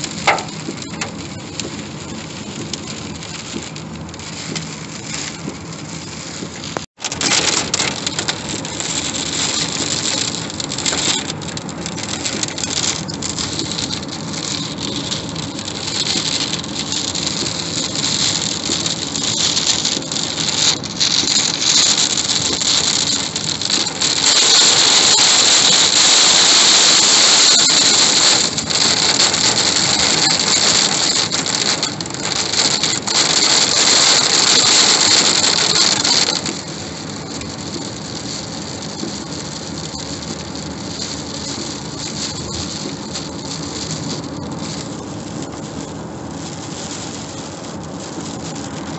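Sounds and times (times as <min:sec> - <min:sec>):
rain on car roof: 0:00.0 - 0:48.9
tyres on wet road: 0:00.0 - 0:48.9.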